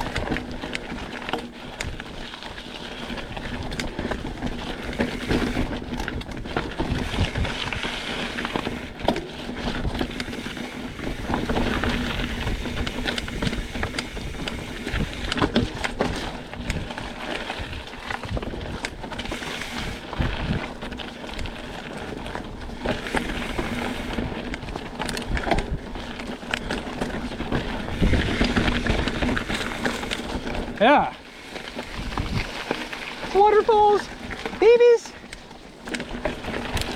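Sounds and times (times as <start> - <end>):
bike clicks and rattles: 0.0 - 36.9
bike tyre and trail noise: 0.0 - 36.9.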